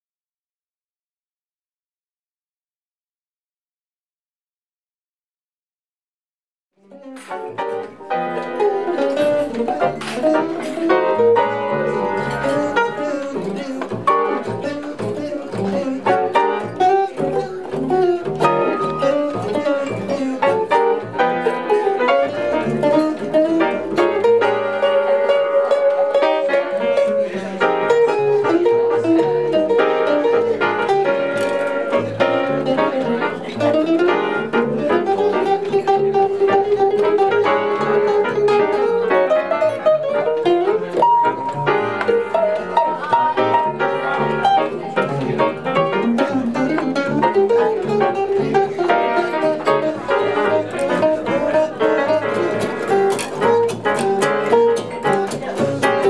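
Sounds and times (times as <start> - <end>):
electric guitar solo: 6.9 - 56.0
upright bass walking line: 7.6 - 56.0.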